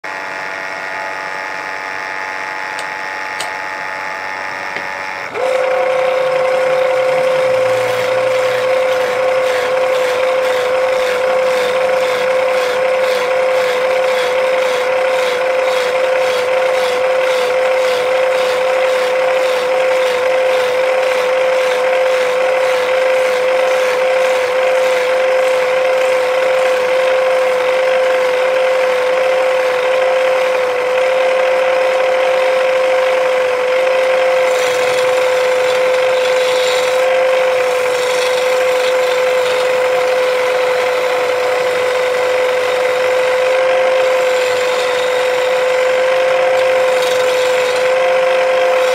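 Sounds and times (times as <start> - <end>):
machine hum: 0.0 - 48.9
wood lathe whine: 0.0 - 48.9
gouge scraping spinning wood: 0.1 - 48.9.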